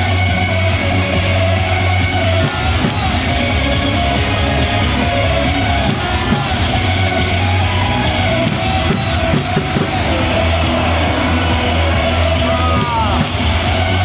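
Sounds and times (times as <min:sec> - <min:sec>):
cheer song with bass beat: 0:00.0 - 0:14.0
voices singing and yelling: 0:00.0 - 0:14.0.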